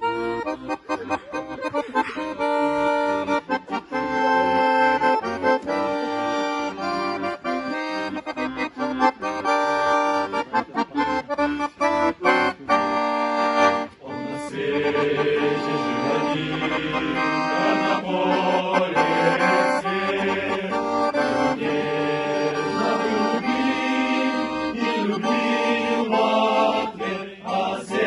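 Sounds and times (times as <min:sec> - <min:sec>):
instrumental melody over chords: 0:00.0 - 0:27.1.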